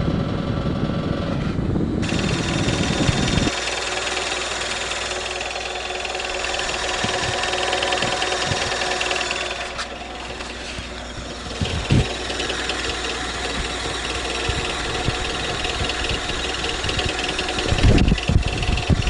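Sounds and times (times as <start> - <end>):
car engine idling: 0.1 - 19.0
rapid valvetrain ticking: 2.0 - 19.0.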